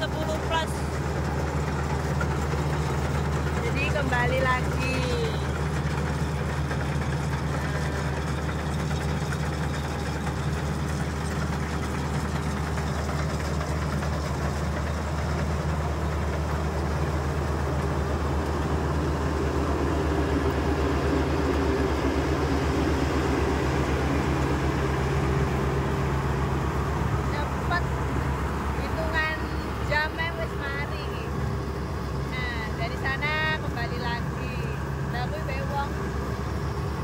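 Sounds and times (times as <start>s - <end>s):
combine harvester engine hum: 0.0s - 37.0s
threshing machinery drone: 0.0s - 37.0s.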